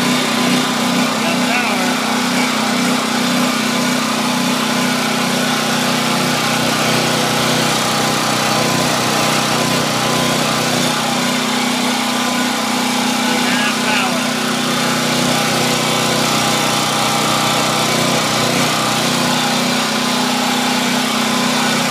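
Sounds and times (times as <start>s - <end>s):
generator engine running: 0.0s - 21.9s.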